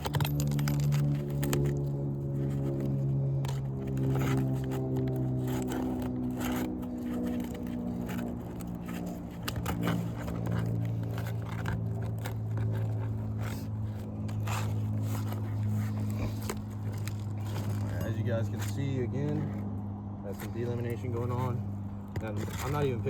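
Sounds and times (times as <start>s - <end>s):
nail puller scraping shingles: 0.0s - 19.7s, 20.3s - 23.0s
steady low hum: 0.0s - 23.0s.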